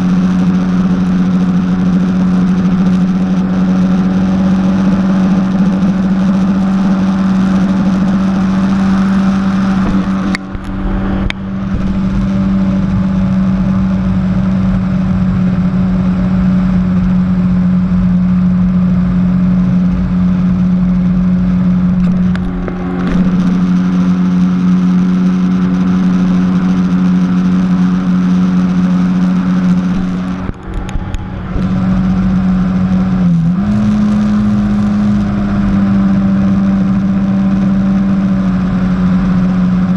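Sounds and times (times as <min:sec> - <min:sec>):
jet ski engine drone: 0:00.0 - 0:39.9.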